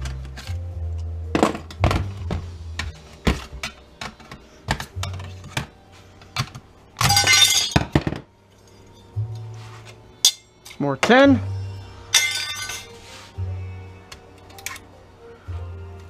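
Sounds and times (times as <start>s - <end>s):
background music low notes: 0.0s - 16.0s.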